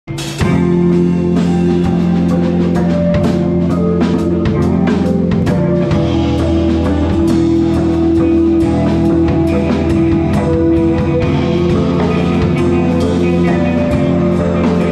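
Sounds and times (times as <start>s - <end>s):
drum kit beat: 0.1s - 14.9s
electric guitar chords: 0.1s - 14.9s.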